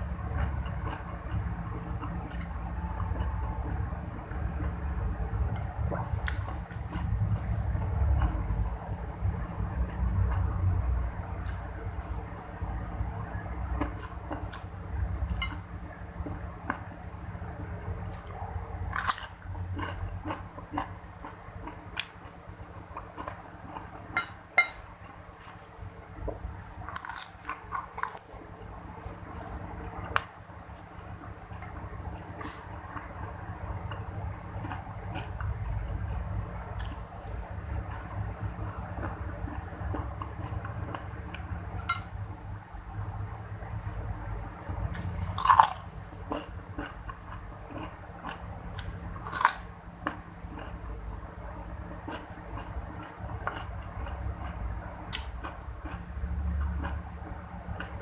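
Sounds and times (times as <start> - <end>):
crunching and chewing: 0.0 - 58.0.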